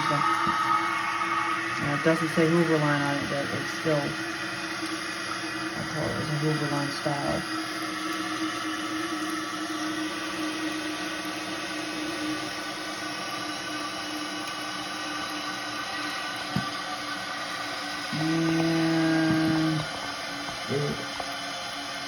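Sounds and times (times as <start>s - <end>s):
toilet tank refilling with water hiss: 0.0s - 22.0s.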